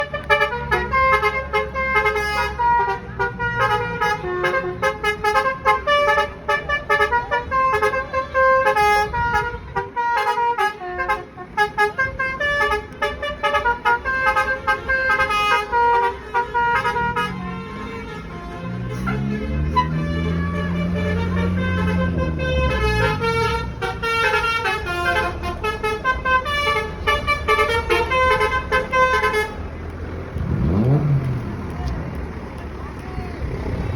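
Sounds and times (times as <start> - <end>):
musical air horns playing tunes: 0.0 - 29.6
low engine rumble: 0.0 - 33.9.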